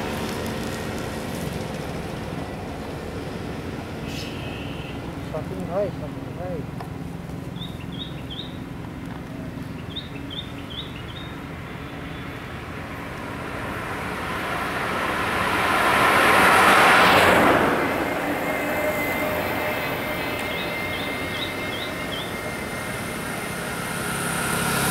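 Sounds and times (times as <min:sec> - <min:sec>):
car driving past: 0:00.0 - 0:24.9.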